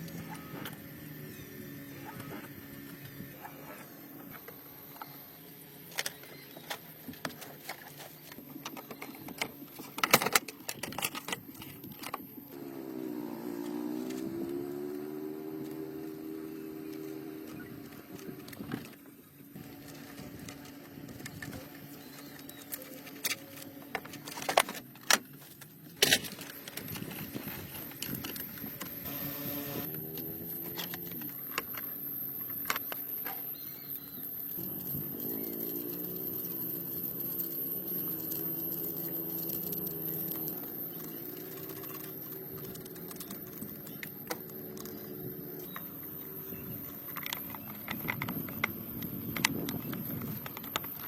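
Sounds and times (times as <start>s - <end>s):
motor running: 0.0s - 24.9s, 26.0s - 51.0s.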